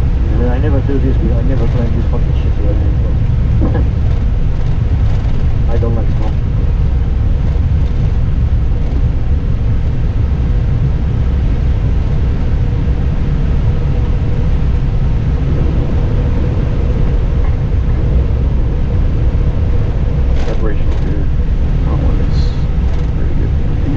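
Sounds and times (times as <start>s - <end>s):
airliner engines low rumble: 0.0s - 23.9s.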